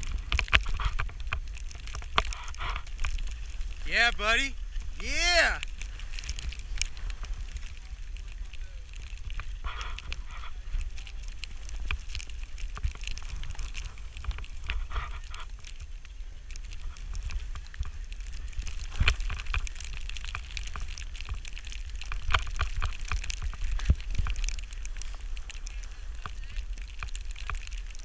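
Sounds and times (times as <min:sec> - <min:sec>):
skis scraping over snow: 0:00.0 - 0:28.0
wind rumble on microphone: 0:00.0 - 0:28.0.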